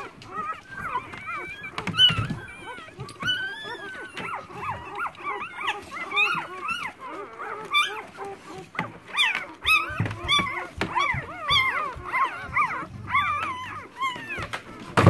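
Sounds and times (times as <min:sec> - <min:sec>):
puppies squeaking and whimpering: 0:00.0 - 0:15.0.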